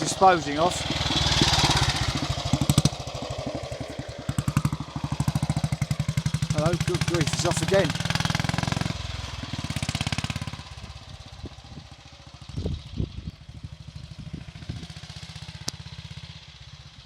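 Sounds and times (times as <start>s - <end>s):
motorcycle engine pulling away: 0.0s - 17.0s.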